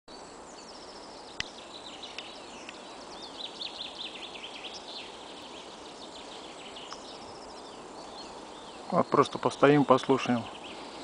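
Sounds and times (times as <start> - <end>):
songbirds chirping and trilling: 0.1 - 11.0
steady background hiss: 0.1 - 11.0.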